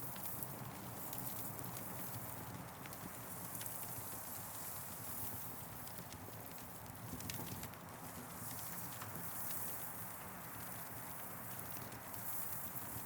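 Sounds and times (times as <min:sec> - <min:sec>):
campfire crackling and popping: 0:00.1 - 0:13.0.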